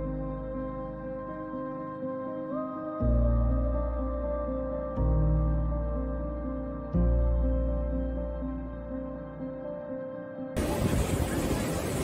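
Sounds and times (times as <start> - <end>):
slow ambient music: 0.0 - 11.5.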